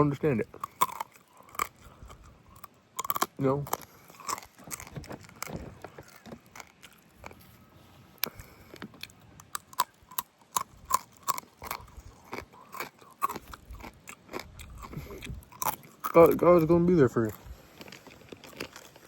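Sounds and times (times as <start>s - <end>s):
wet chewing and mouth smacks: 0.3s - 19.0s.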